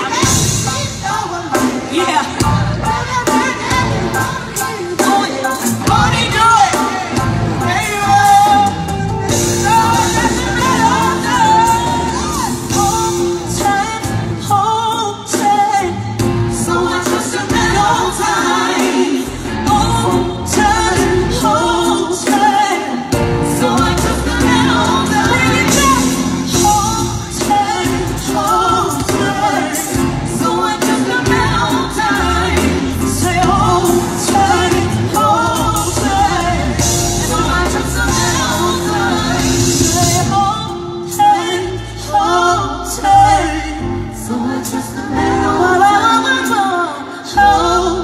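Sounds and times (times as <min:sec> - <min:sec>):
loud music with singing: 0:00.0 - 0:48.0.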